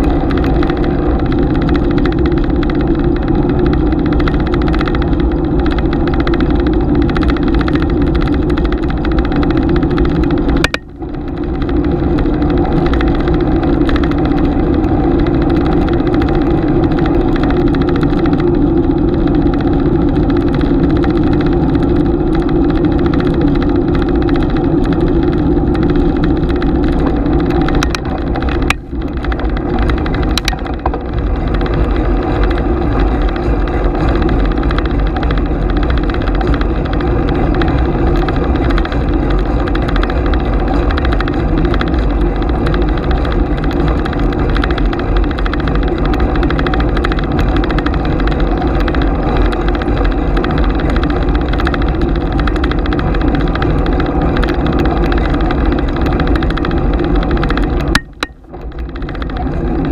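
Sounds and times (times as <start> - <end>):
bicycle tyre rumble: 0.0 - 59.9
wind rushing: 0.0 - 59.9.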